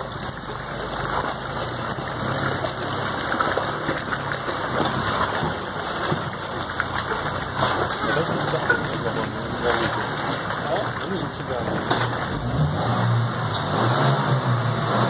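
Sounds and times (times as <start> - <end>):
water dripping off wheel: 0.0 - 12.8
car engine running low: 0.0 - 15.0
tyres splashing through stream: 0.0 - 15.0.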